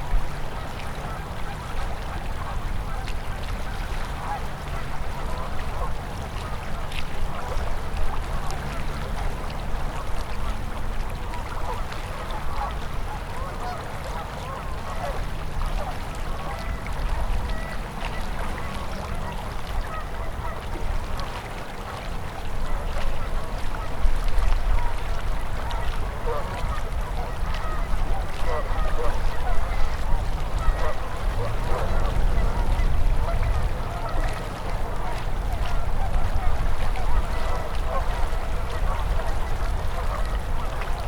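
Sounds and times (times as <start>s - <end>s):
gurgling water patter: 0.0s - 41.0s
river flowing with low rumble: 0.0s - 41.0s.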